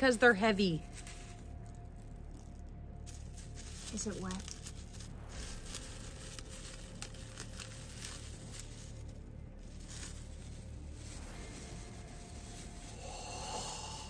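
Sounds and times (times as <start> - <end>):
wrapping crinkling and tearing: 0.0 - 14.0.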